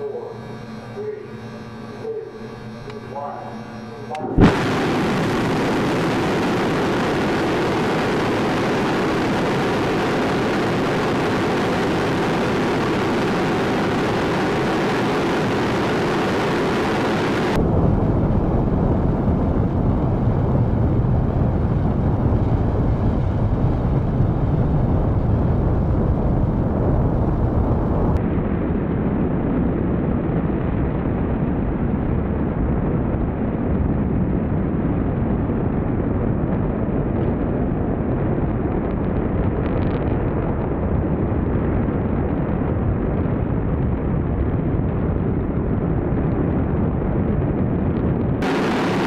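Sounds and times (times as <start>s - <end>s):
rocket exhaust roar: 0.0s - 49.0s.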